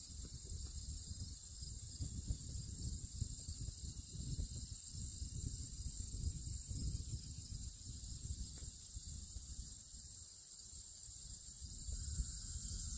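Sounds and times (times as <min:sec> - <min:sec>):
insects chirping in grass: 0:00.0 - 0:12.9
wind rumble on microphone: 0:00.0 - 0:12.9.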